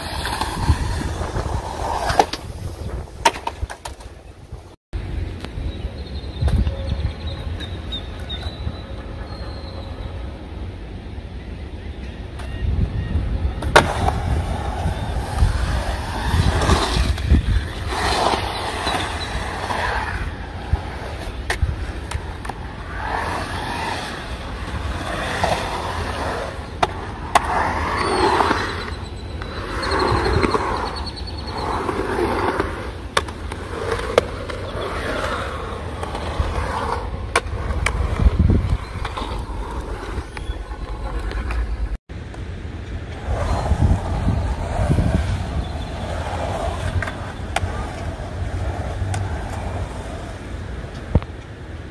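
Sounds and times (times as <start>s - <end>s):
skateboard wheels rolling on concrete: 0.0s - 51.9s.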